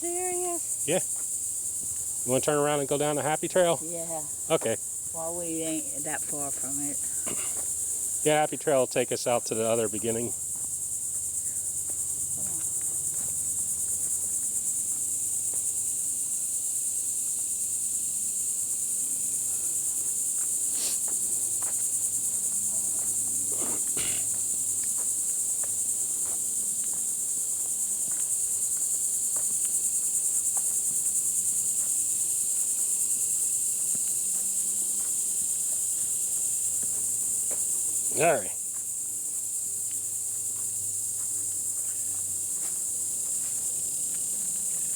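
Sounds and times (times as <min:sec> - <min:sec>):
insects trilling: 0:00.0 - 0:44.9.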